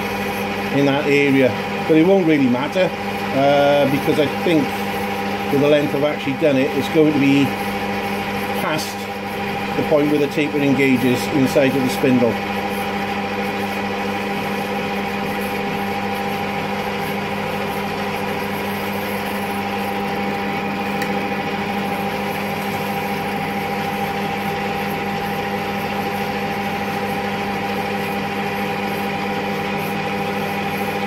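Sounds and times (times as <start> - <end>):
lathe running with hum: 0.0 - 31.0
lathe tool cutting metal: 0.0 - 31.0.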